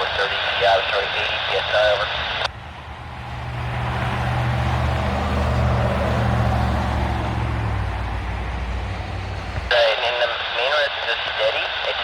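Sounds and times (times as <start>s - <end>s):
locomotive engine low drone: 0.0s - 11.2s.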